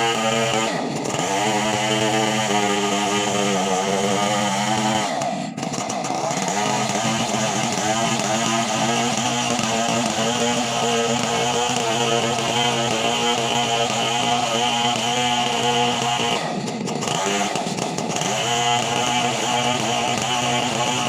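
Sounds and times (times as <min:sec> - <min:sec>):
chainsaw engine at high revs: 0:00.0 - 0:21.0.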